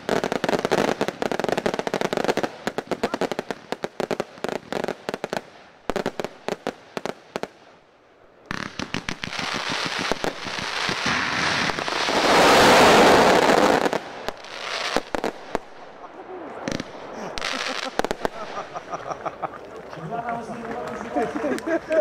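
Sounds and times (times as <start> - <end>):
fireworks bangs: 0.0 - 7.8, 8.4 - 19.7
fireworks launching: 0.0 - 7.8, 8.4 - 19.7.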